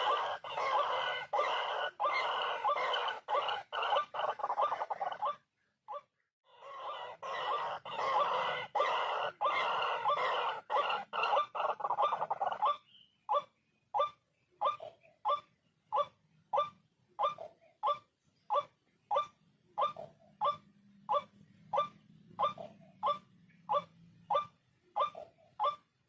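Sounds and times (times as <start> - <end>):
waterhen calling: 0.0 - 5.5, 6.5 - 26.0.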